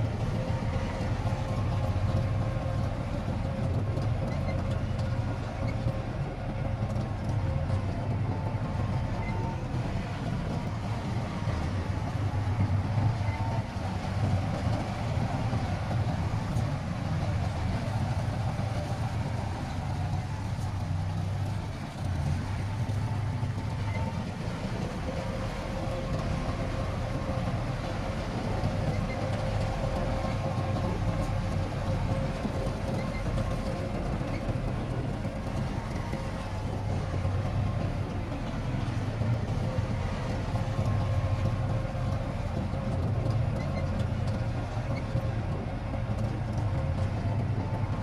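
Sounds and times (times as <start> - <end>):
diesel machinery engine drone: 0.0 - 48.0.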